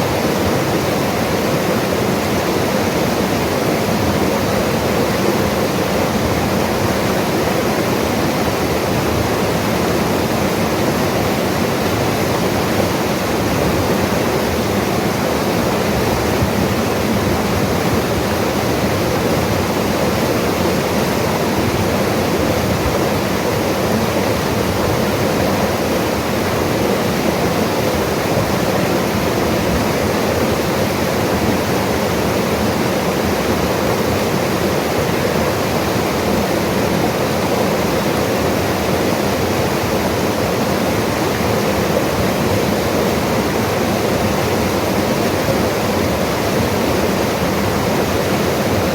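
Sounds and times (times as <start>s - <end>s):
river rushing water: 0.0s - 48.9s.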